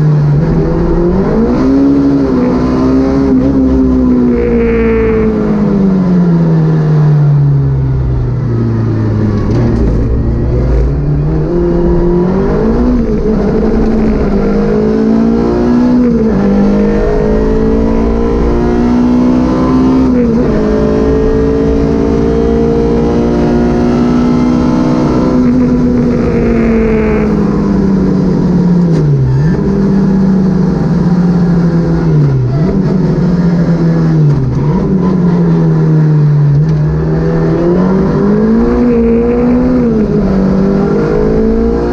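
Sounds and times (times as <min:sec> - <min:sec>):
car engine at full load: 0:00.0 - 0:41.9
road and drivetrain rumble: 0:00.0 - 0:41.9.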